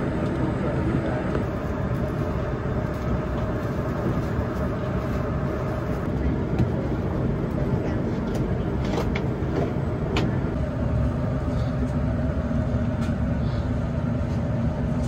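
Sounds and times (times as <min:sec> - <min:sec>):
cabin ventilation rumble: 0:00.0 - 0:15.0.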